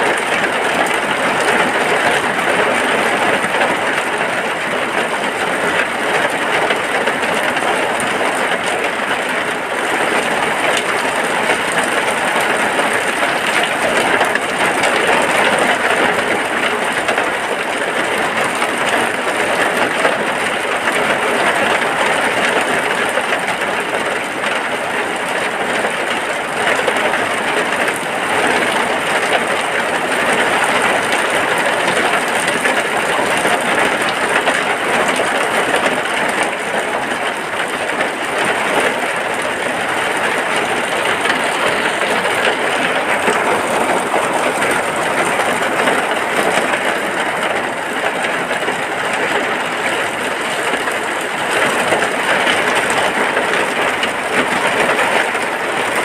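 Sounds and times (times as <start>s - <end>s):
dense rain on a hut: 0.0s - 56.0s.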